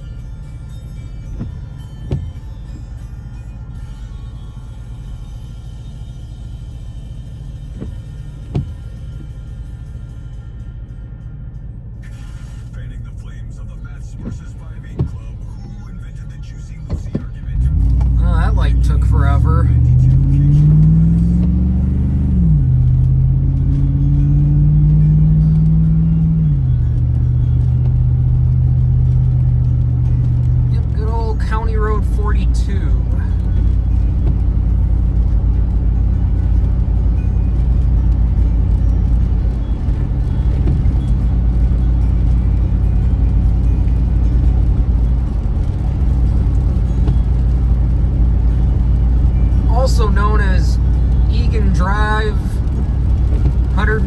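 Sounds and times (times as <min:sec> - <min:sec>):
car engine accelerating: 0:05.1 - 0:54.0.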